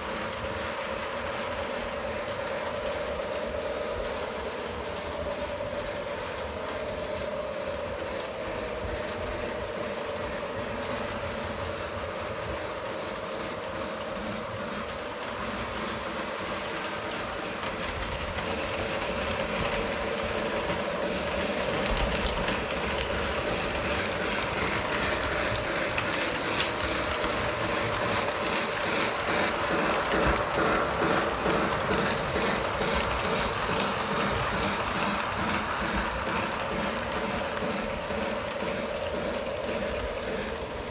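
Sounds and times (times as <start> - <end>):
wheels clicking over rails: 0.0 - 40.9.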